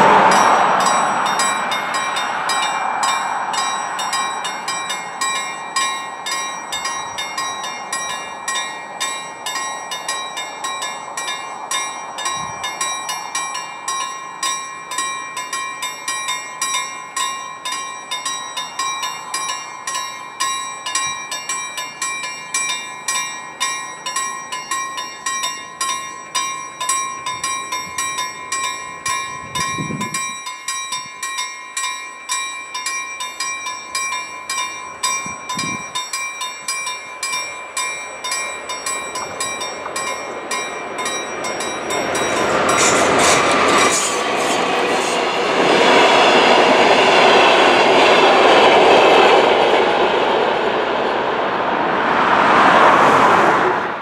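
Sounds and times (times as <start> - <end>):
level-crossing warning bell: 0.0 - 51.5
passing train rumble: 0.0 - 54.0.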